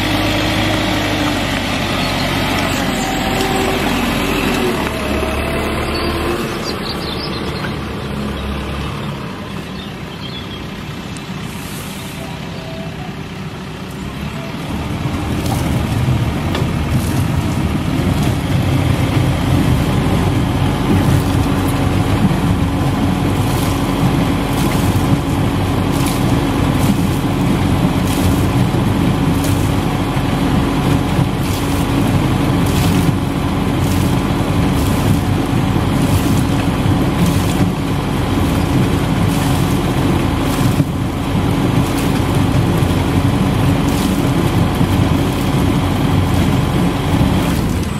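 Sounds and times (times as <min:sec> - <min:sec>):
loader engine hum: 0:00.0 - 0:47.9.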